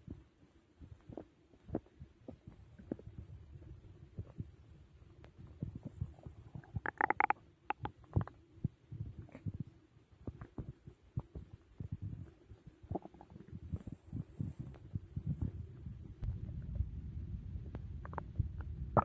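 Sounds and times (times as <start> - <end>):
stomach growling and gurgling: 0.8 - 4.7, 5.4 - 19.0.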